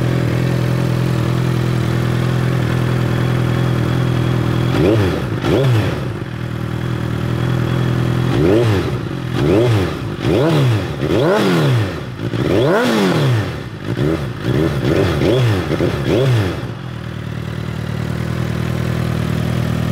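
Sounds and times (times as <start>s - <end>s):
motorcycle engine idling and revving: 0.0s - 19.9s.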